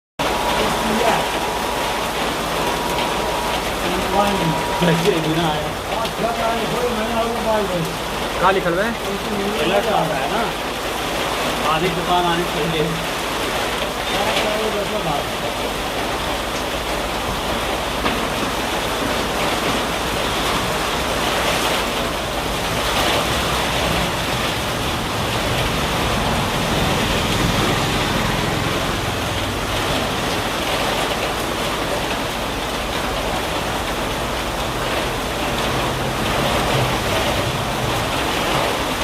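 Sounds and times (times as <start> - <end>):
steady rain falling: 0.2 - 39.0.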